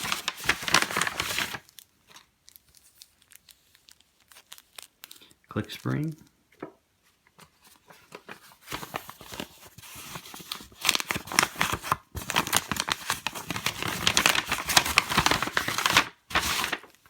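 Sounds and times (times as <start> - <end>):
packaging crinkling and rustling: 0.0 - 6.0, 6.6 - 17.0.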